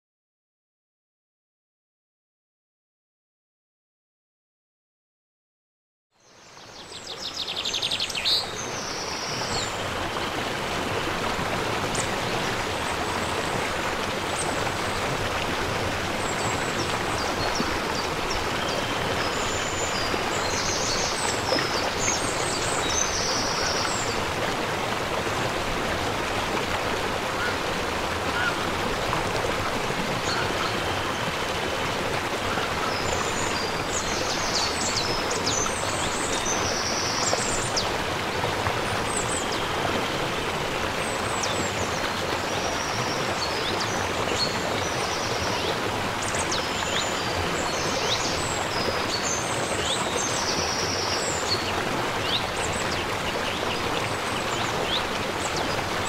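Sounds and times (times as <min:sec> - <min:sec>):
river rushing over boulders: 0:07.9 - 0:56.0.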